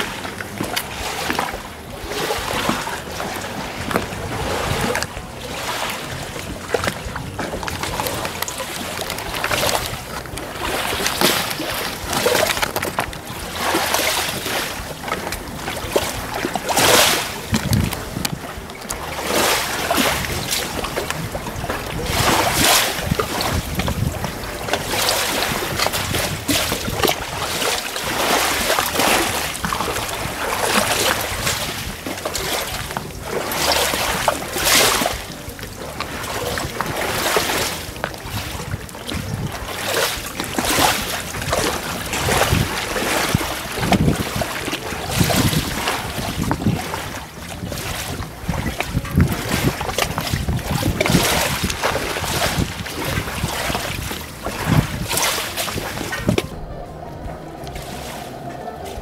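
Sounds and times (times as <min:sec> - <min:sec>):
waves lapping against jetty: 0:00.0 - 0:59.0.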